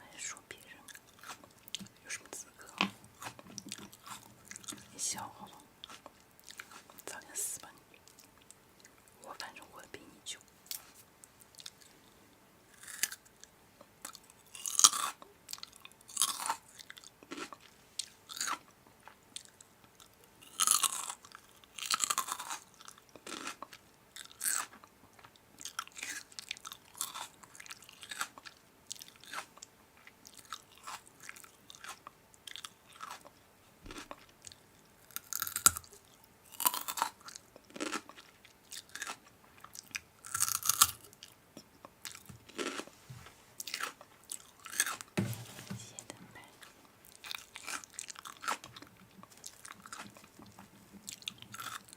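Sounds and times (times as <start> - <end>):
person chewing crunchy food: 0.8 - 2.0, 2.6 - 7.0, 10.7 - 12.0, 12.7 - 43.0, 43.6 - 45.2, 46.4 - 51.9.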